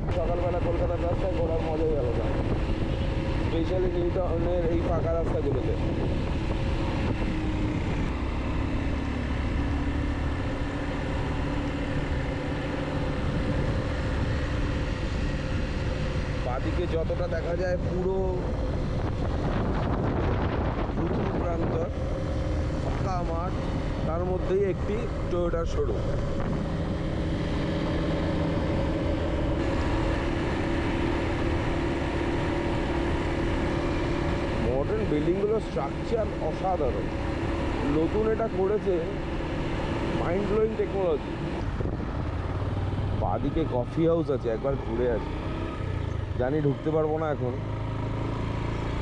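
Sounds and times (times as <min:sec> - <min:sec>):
motorcycle engine cruising: 0:00.0 - 0:49.0
wind and road noise: 0:00.0 - 0:49.0.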